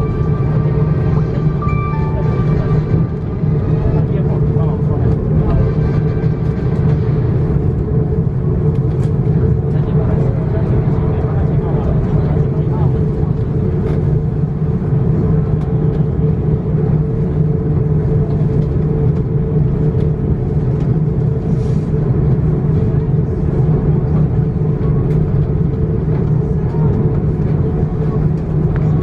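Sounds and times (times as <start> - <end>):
airliner cabin engine drone: 0.0 - 29.0.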